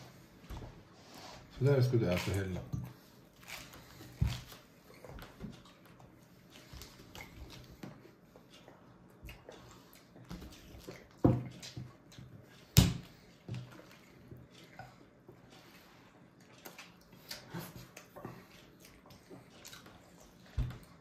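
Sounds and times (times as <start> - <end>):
babies eating with handling taps: 1.6 - 21.0.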